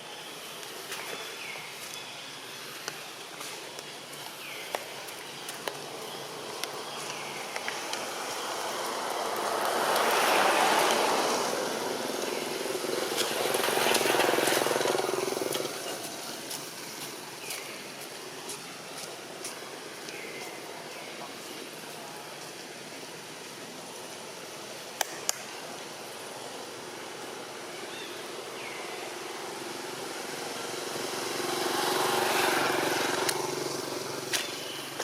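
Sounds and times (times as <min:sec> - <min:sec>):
vehicles passing by: 0:00.3 - 0:35.0.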